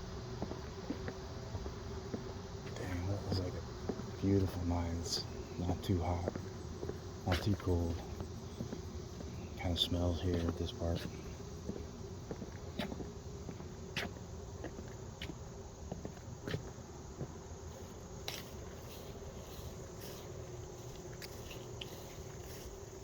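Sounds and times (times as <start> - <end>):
crickets and insects chirring: 0.0 - 23.0
footsteps on dry trail: 0.0 - 23.0.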